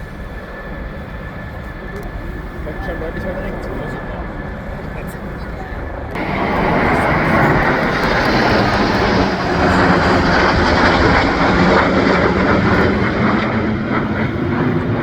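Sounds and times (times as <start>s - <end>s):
aircraft flying over: 0.0s - 15.0s.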